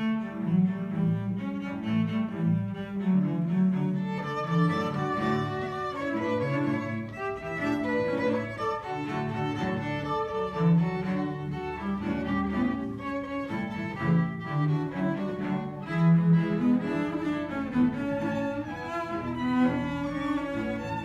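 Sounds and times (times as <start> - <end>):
string ensemble playing: 0.0 - 21.0.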